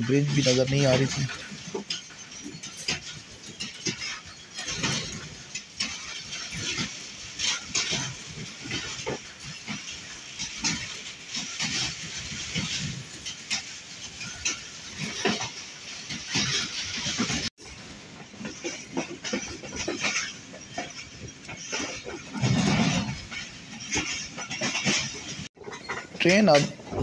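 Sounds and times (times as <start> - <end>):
train wheels clacking on rails: 0.0 - 27.0.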